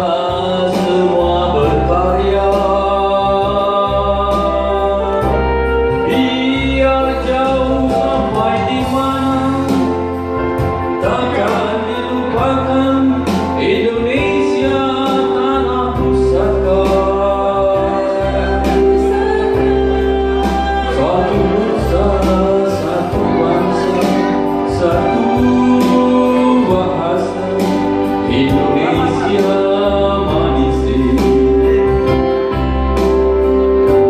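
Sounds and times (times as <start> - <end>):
man and woman singing: 0.0 - 5.4, 6.0 - 10.0, 11.0 - 32.0
band playing sustained chords: 0.0 - 34.0.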